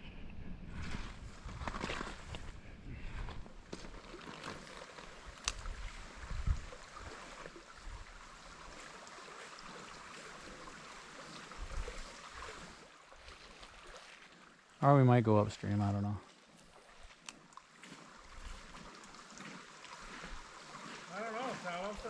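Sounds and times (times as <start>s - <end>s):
creek running: 0.9s - 22.0s.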